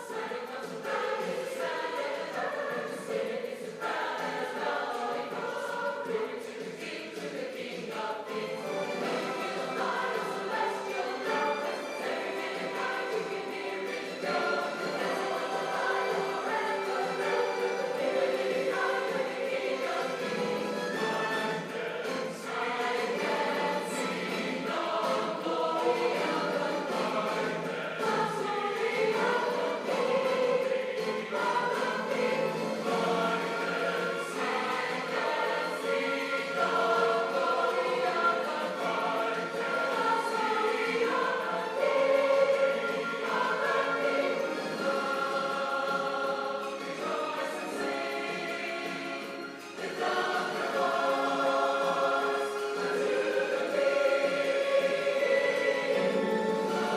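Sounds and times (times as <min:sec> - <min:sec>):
choir singing in harmony: 0:00.0 - 0:56.9.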